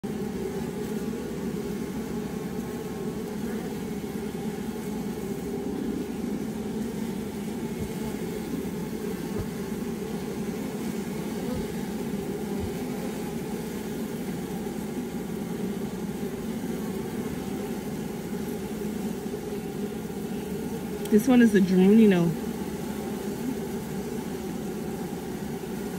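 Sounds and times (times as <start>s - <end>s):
honeybees buzzing: 0.0s - 25.9s.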